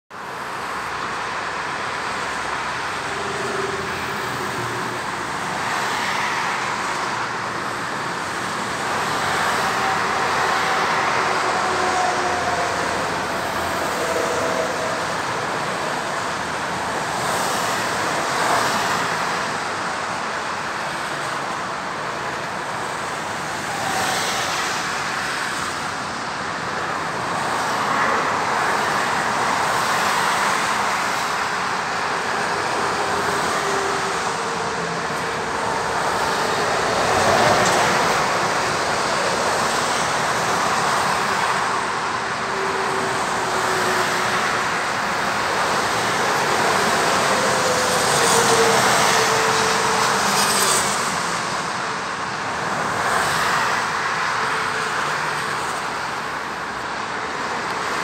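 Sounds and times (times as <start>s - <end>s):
motorway traffic rushing: 0.1s - 58.0s.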